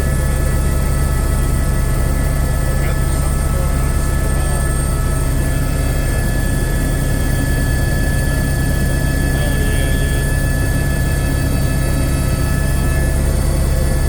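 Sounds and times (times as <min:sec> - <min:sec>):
helicopter rotor and engine rumble: 0:00.0 - 0:14.0
high turbine whine: 0:00.0 - 0:14.0.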